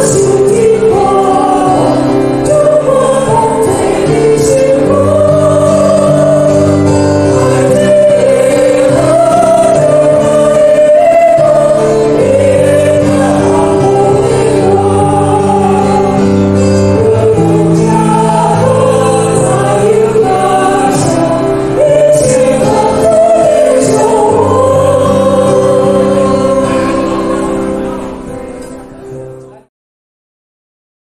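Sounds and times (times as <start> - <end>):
group of voices singing: 0.0 - 28.4
electronic keyboard: 0.0 - 29.7.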